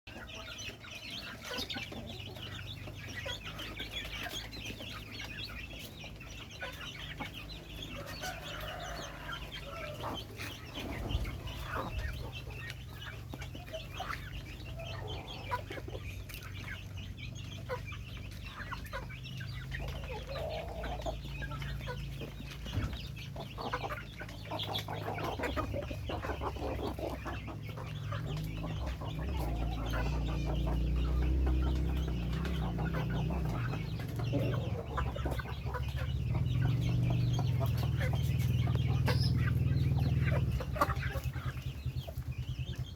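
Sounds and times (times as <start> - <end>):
chickens clucking: 0.1 - 42.9.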